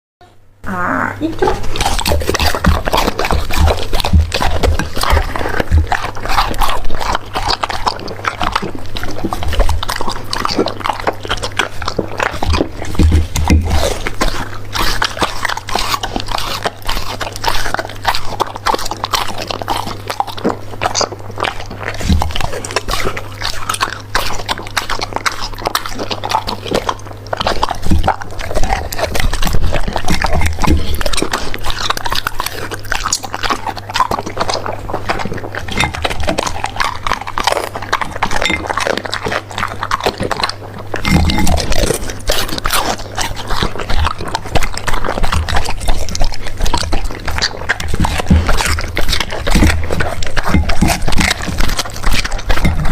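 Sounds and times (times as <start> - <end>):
dog chewing and crunching food: 1.2 - 52.9.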